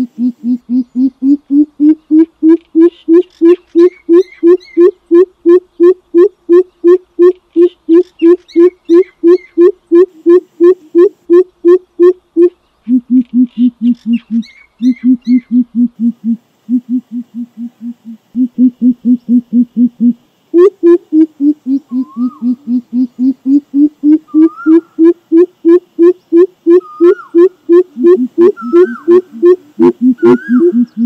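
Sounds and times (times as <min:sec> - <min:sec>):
bird calling deep hoots: 0:00.0 - 0:31.0.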